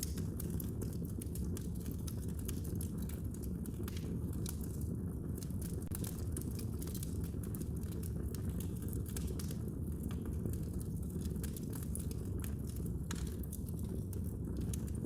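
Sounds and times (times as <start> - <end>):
fire pops and snaps: 0.0 - 15.0
low rumble of burning fire: 0.0 - 15.0.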